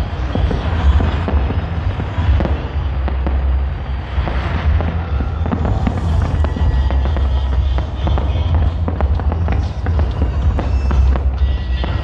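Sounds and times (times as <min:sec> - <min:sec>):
fireworks bangs and crackles: 0:00.0 - 0:12.0
steady low rumble: 0:00.0 - 0:12.0.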